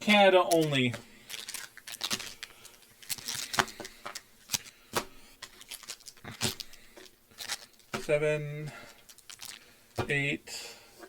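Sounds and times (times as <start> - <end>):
wrapper rustling: 0.1 - 10.0.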